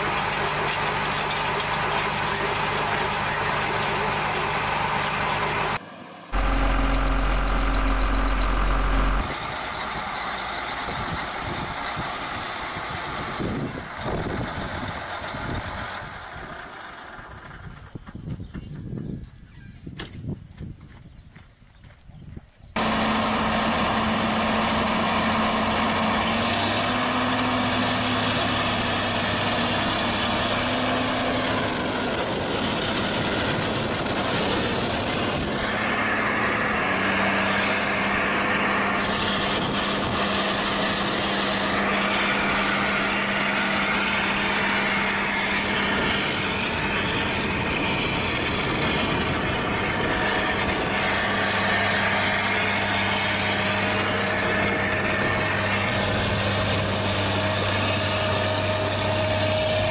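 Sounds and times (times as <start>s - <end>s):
tractor diesel engine running: 0.0s - 19.2s, 22.8s - 59.9s.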